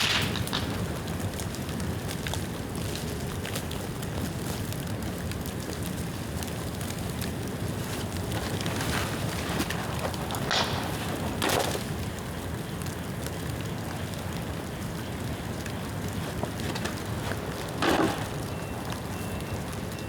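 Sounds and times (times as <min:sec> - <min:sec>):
bonfire crackling: 0:00.0 - 0:20.0
loud pops from burning bamboo: 0:00.0 - 0:20.0.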